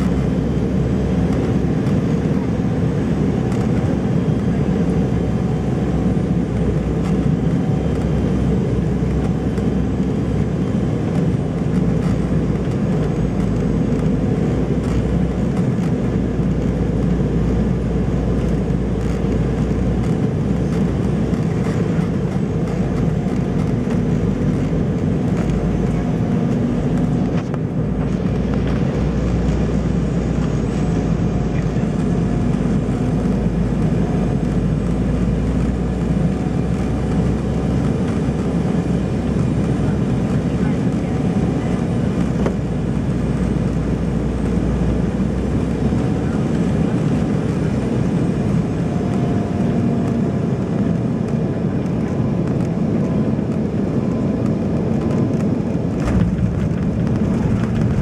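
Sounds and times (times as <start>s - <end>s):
deep rumble: 0.0s - 58.0s
jet engine drone in cabin: 0.0s - 58.0s.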